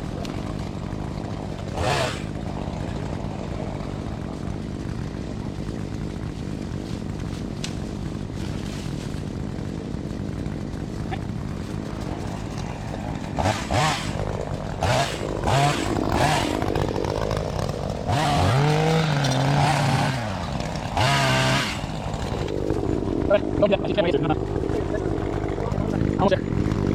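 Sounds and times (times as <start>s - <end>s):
chainsaw idling and revving: 0.0s - 26.9s.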